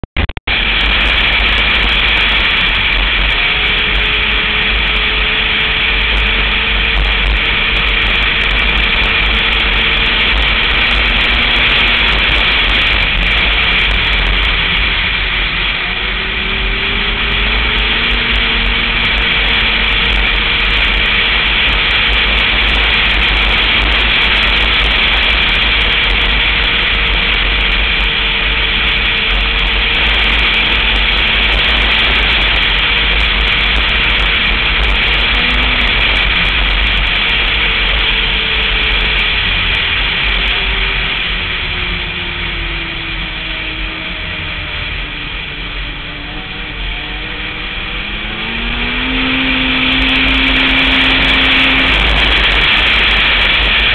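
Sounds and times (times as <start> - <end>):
snowmobile engine running: 0.0 - 53.9
wind rushing on microphone: 0.4 - 53.9.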